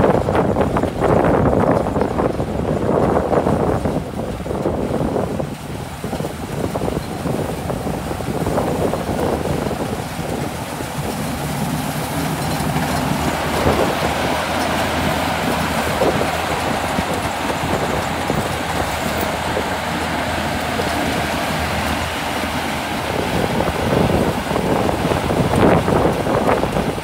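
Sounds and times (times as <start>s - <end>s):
diesel engine running: 0.0s - 27.0s
harvester threshing machinery: 4.4s - 27.0s.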